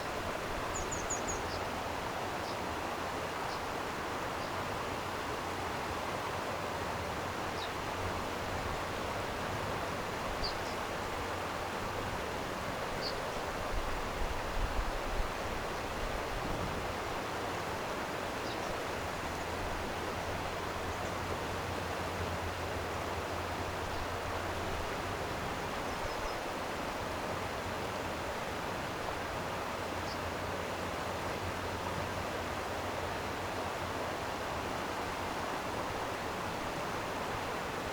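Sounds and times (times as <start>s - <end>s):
flowing stream rushing: 0.0s - 37.9s.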